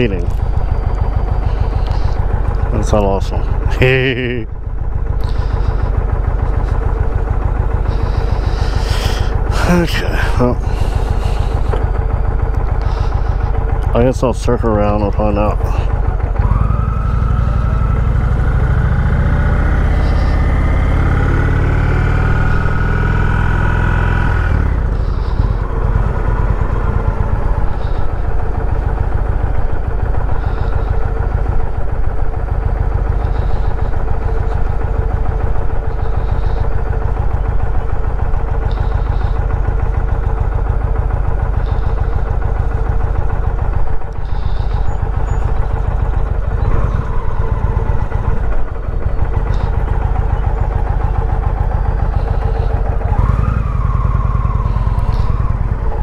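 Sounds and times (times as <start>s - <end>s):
heavy low rumble: 0.0s - 56.0s
motorcycle engine accelerating: 0.0s - 56.0s.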